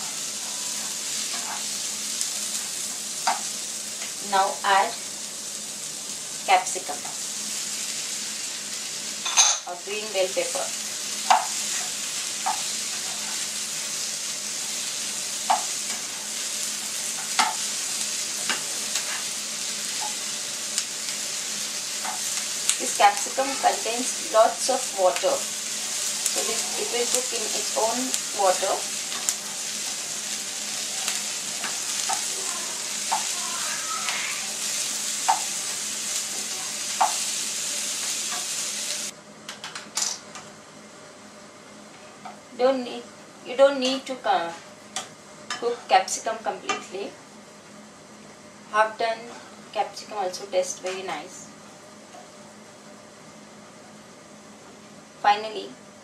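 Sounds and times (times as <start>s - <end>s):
vegetables sizzling in a frying pan: 0.0s - 40.4s, 42.0s - 56.0s.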